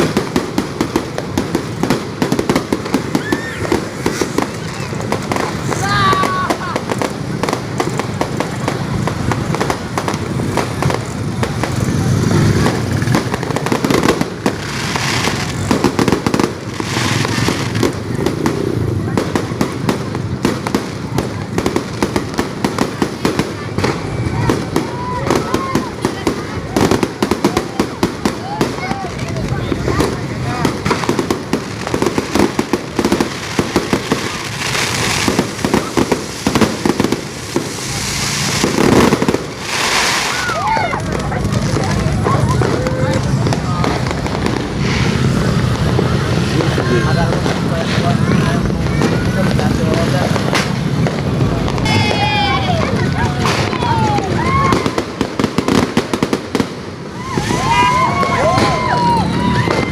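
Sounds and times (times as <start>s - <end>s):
fireworks and firecrackers popping: 0.0s - 59.9s
hissing rush: 0.0s - 59.9s.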